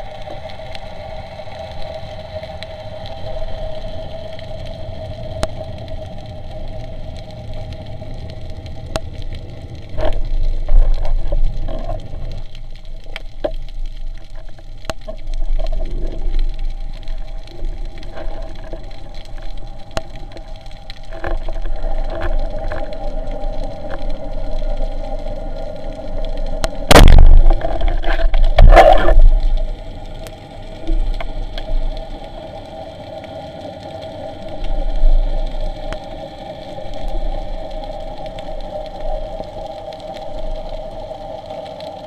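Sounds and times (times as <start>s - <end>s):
water noise: 0.0s - 42.0s.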